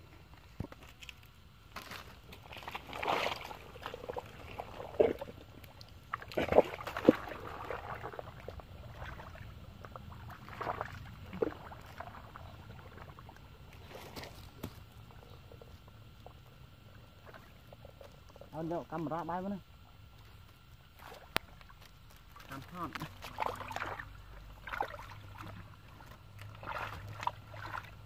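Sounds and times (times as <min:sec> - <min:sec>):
water sloshing and splashing: 0:00.4 - 0:28.0.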